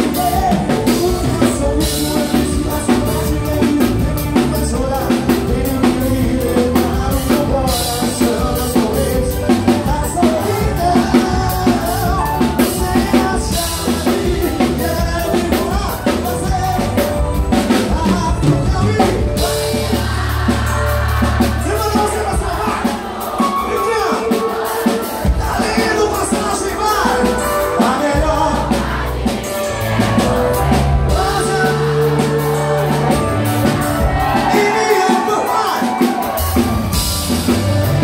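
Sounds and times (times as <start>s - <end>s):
deep bass notes: 0.0s - 23.4s, 25.2s - 34.6s, 36.2s - 38.0s
drums: 0.0s - 38.0s
man singing: 0.0s - 38.0s.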